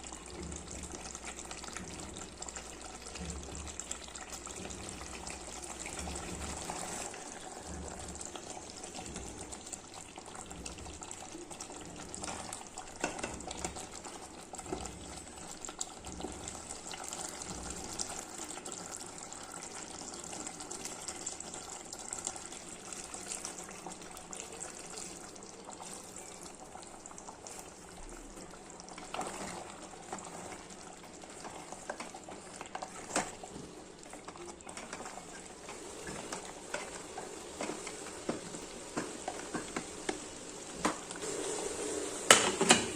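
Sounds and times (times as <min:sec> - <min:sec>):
liquid hissing in cooking pot: 0:00.0 - 0:42.9.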